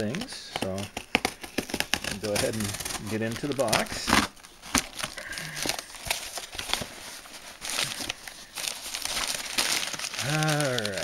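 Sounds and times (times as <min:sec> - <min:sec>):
packing paper rustling and crinkling: 0:00.0 - 0:11.0.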